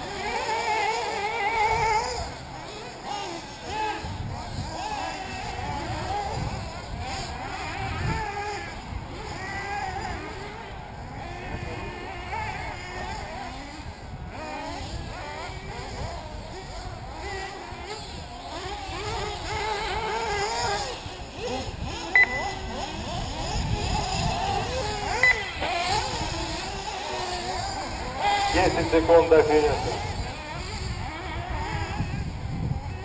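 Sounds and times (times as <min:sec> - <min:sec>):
rc car engines whining: 0:00.0 - 0:33.0.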